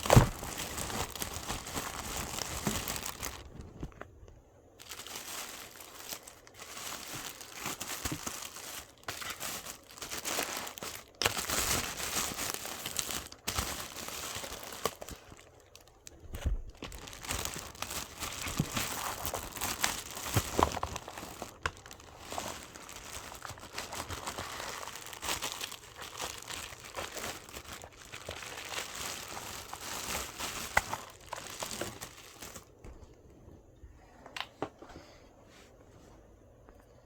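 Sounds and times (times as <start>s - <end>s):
packaging crinkling and rustling: 0.0s - 33.2s.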